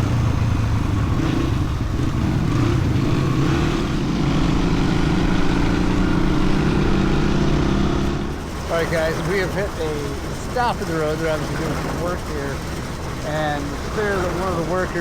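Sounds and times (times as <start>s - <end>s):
constant rushing noise: 0.0s - 15.0s
dirt bike engine running: 0.0s - 15.0s.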